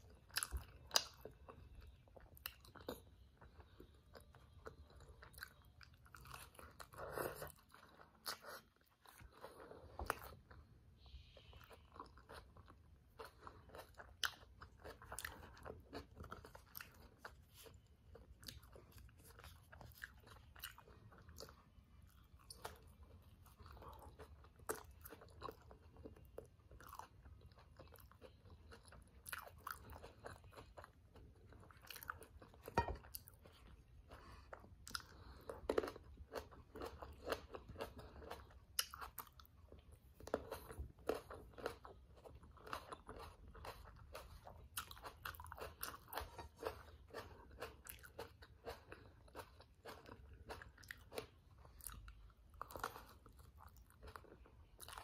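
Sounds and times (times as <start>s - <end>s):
chewing and biting a wrap: 0.0s - 55.0s.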